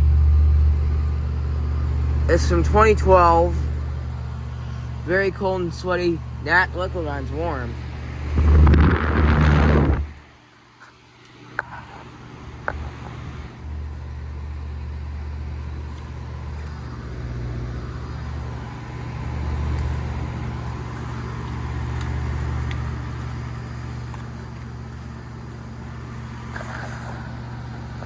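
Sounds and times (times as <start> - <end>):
compressor low hum: 0.0 - 28.0
condenser fan whoosh: 0.0 - 28.0.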